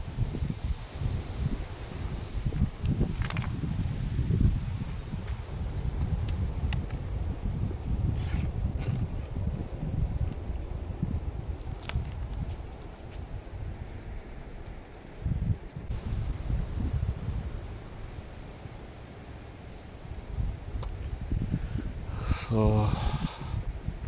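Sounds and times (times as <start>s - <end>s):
cricket chirping: 0.0s - 24.0s
fast insect trill: 0.1s - 24.0s.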